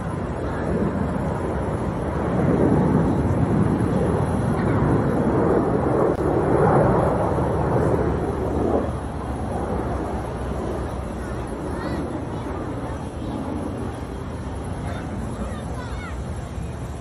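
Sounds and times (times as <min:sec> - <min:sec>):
jets flying over: 0:00.0 - 0:17.0.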